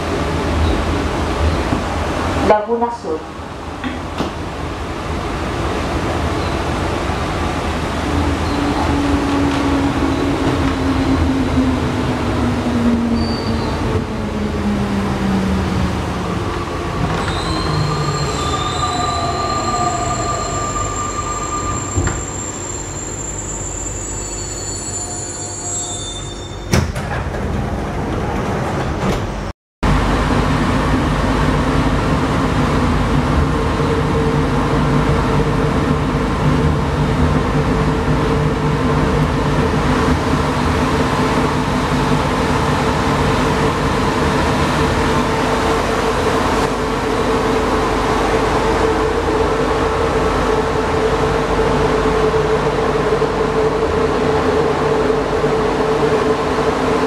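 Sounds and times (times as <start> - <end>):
metro train drive whine: 0.0 - 57.0.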